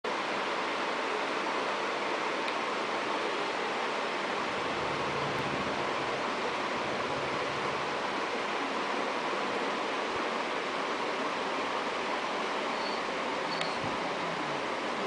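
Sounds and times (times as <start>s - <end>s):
steady background hiss: 0.1s - 15.0s.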